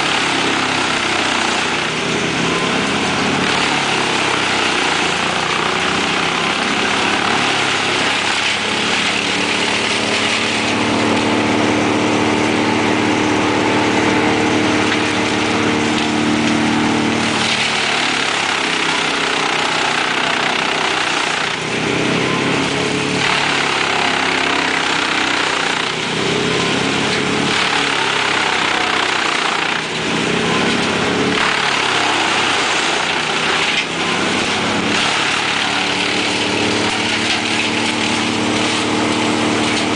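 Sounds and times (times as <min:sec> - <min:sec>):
engines running hard: 0:00.0 - 0:39.9
wood chipper rushing noise: 0:00.0 - 0:39.9.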